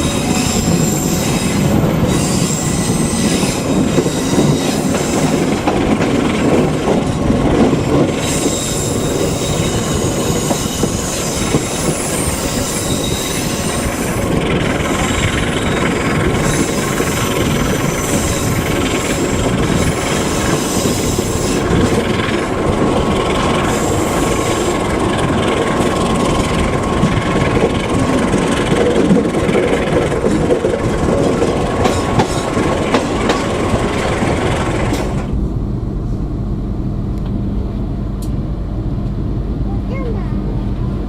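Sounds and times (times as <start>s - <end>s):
train clattering and rumbling: 0.0s - 41.0s.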